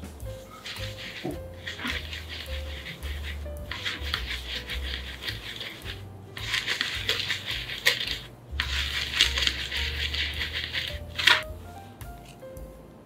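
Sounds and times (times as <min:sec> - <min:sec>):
wet flour rubbed through sieve: 0:00.0 - 0:12.0.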